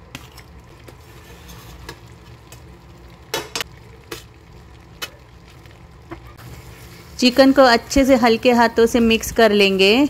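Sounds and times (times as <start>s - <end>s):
cream sauce sizzling: 0.0s - 10.0s.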